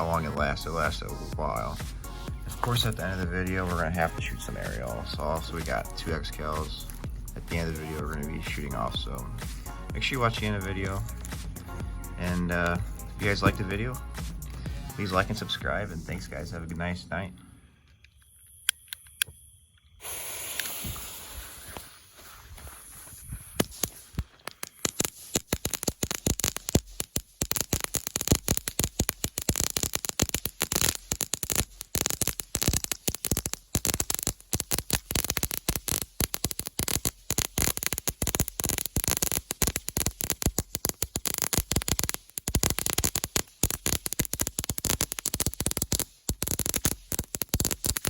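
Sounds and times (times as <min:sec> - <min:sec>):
firework hiss: 0:00.0 - 0:16.5, 0:20.0 - 0:48.0
firework crackling: 0:00.0 - 0:16.6, 0:20.0 - 0:48.0.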